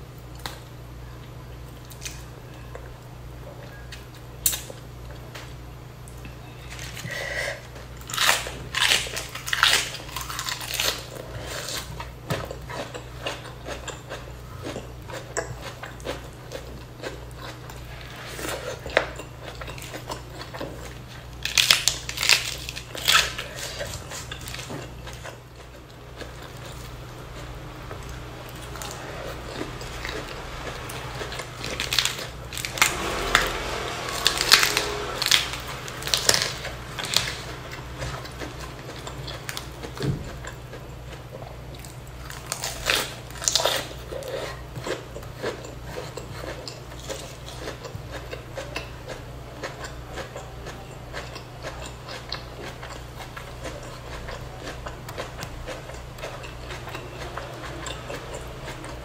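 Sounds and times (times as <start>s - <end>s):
steady low hum: 0.0s - 59.0s
chewing and crunching food: 0.2s - 59.0s.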